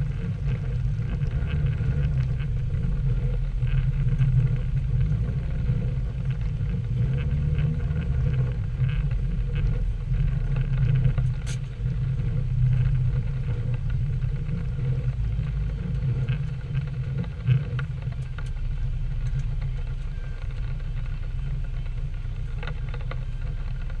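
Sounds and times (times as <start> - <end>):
car engine rumbling: 0.0 - 24.0
faint ticks: 0.0 - 24.0.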